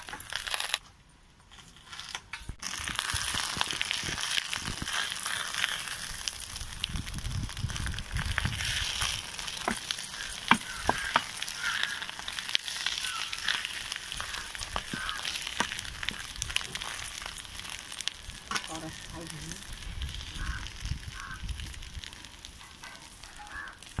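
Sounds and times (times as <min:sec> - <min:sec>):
leaves crinkling: 0:00.0 - 0:00.8, 0:01.5 - 0:24.0.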